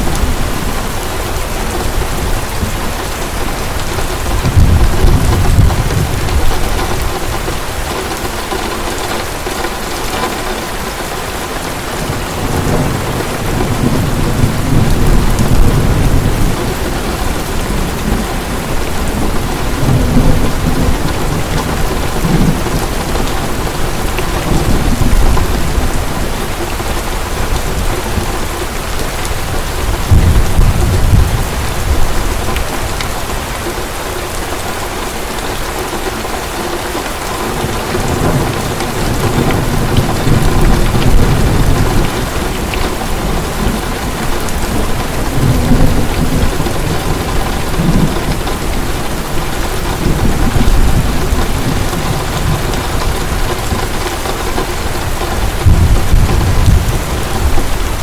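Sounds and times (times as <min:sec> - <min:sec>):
rolling thunder: 0:00.0 - 0:07.9, 0:12.0 - 0:33.5, 0:37.4 - 0:58.0
heavy rain falling: 0:00.0 - 0:58.0.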